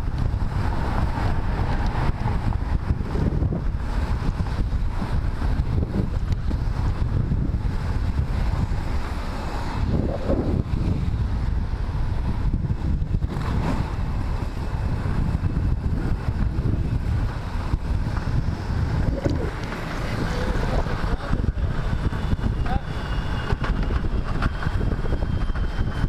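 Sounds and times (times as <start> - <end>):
inline skate wheels on asphalt: 0.0 - 26.0
wind buffeting microphone: 0.0 - 26.0.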